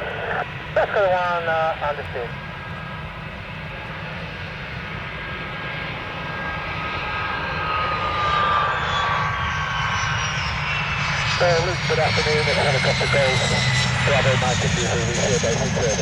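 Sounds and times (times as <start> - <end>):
plane engines passing close: 0.0 - 16.0.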